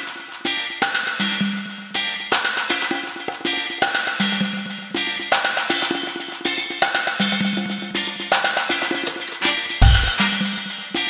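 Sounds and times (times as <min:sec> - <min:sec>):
background music with drums: 0:00.0 - 0:11.0.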